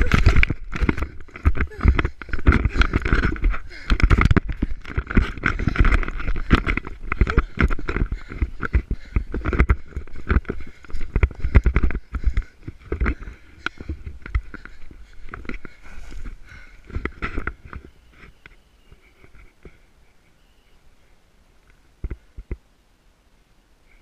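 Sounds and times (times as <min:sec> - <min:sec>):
gear jostling: 0:00.0 - 0:19.8
running footsteps on dirt path: 0:00.0 - 0:19.9
rustling vegetation: 0:00.0 - 0:24.0.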